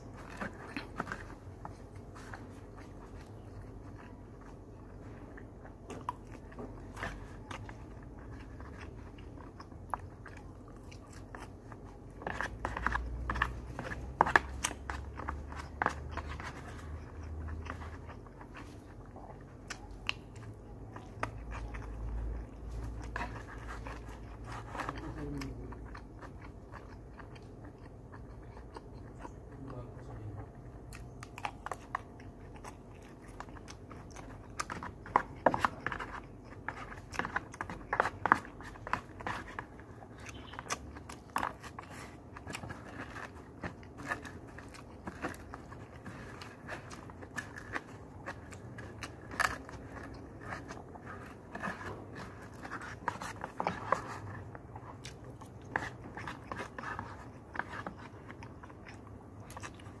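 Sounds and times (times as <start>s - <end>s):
chewing and biting food: 0.0s - 60.0s.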